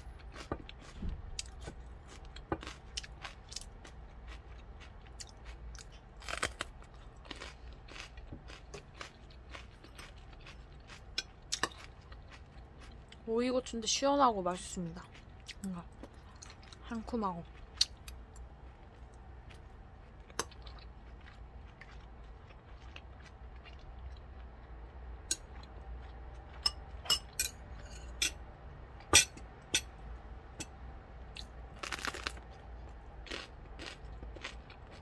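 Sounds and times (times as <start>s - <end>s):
chewing: 0.0s - 13.2s, 15.0s - 27.4s, 31.4s - 35.0s.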